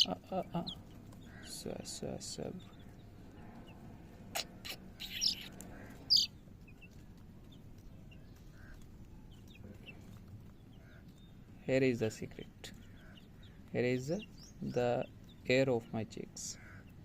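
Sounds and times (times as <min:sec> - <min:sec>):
young chicken peeping: 0:00.0 - 0:15.5.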